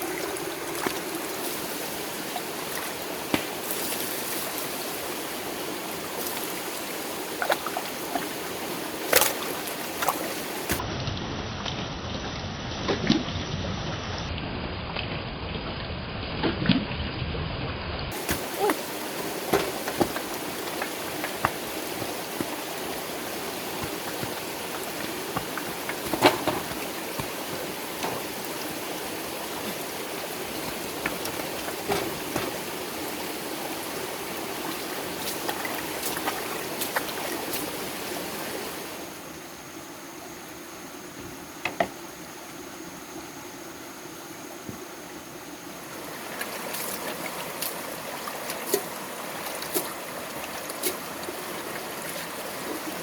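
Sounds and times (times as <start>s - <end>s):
stream water running: 0.0s - 10.9s, 18.1s - 53.0s.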